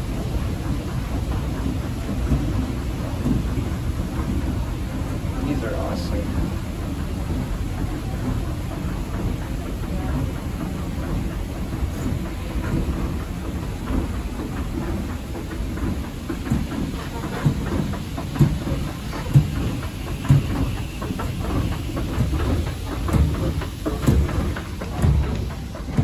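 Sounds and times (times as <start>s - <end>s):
escalator clacks: 0.0s - 26.0s
escalator rumble: 0.0s - 26.0s.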